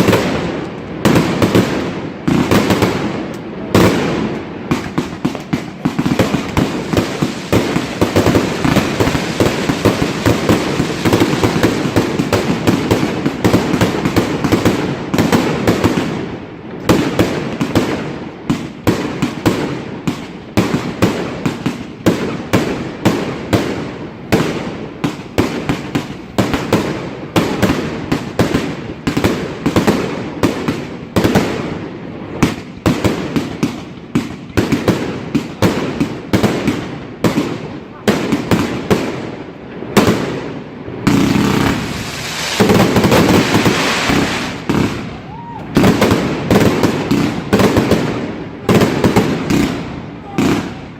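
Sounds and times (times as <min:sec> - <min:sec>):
fireworks crackling: 0:00.0 - 0:50.9
fireworks sharp bangs: 0:00.0 - 0:50.9.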